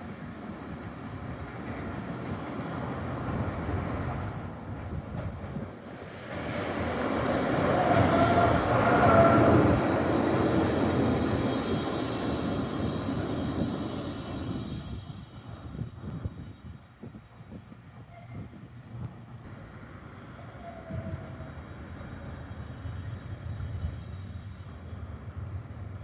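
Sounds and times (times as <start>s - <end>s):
tram rumbling past: 0.0s - 26.0s.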